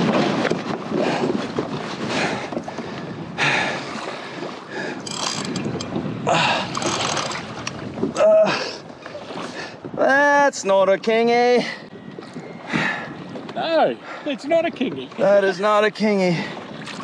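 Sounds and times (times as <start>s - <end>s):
water sloshing against kayak hull: 0.0s - 10.1s, 11.0s - 17.0s
wind buffeting microphone: 0.0s - 17.0s.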